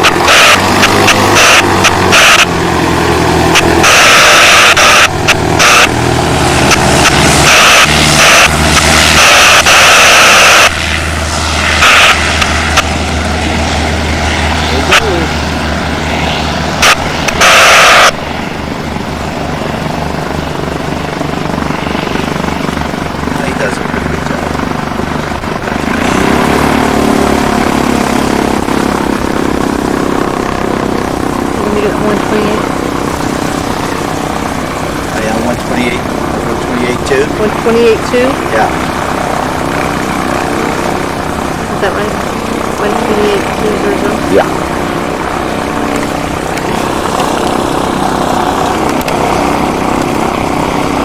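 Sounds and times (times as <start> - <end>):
propeller aircraft engine running: 0.0 - 51.0.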